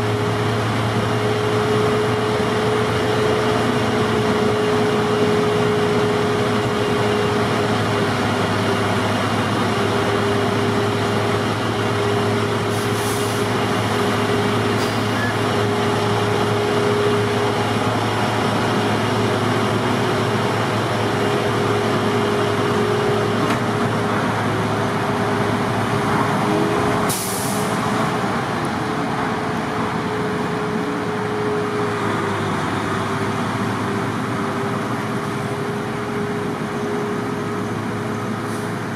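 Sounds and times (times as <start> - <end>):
snowblower engine drone: 0.0 - 27.1, 27.8 - 38.9.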